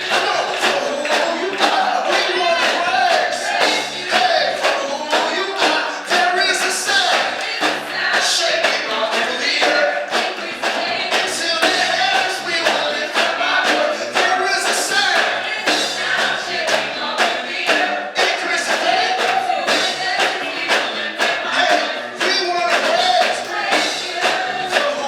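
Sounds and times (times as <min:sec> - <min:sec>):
people singing: 0:00.0 - 0:25.0
steady drum beat: 0:00.0 - 0:25.0.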